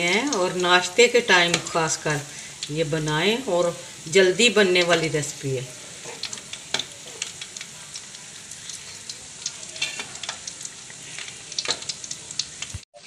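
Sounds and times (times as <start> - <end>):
oil sizzling with crackling pops: 0.0 - 13.0.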